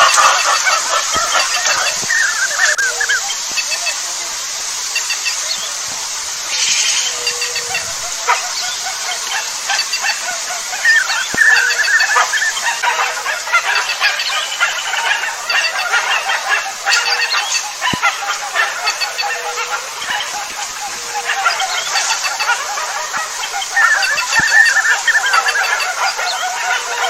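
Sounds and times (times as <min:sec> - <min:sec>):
rapid warbling bird call: 0:00.0 - 0:27.0
wild birds chirping: 0:00.0 - 0:27.0.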